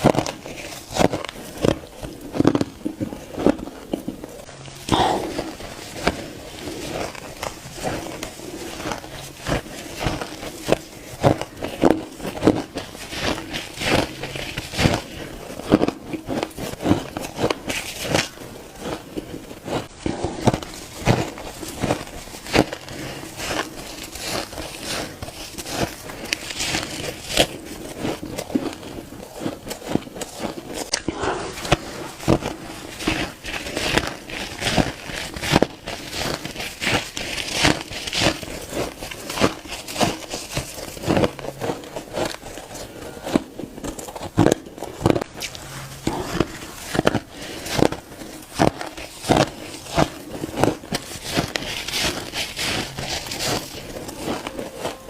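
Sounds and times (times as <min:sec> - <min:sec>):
crunching shaved ice: 0:00.0 - 0:55.0.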